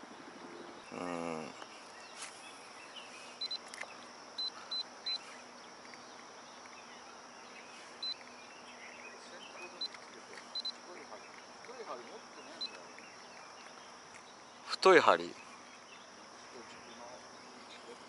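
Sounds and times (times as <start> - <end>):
faint chirping: 0.0 - 18.0.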